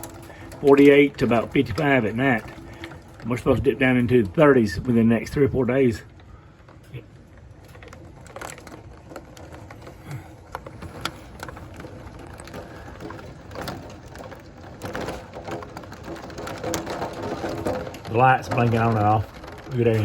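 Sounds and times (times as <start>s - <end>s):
hailstones hitting window glass: 0.0s - 20.0s.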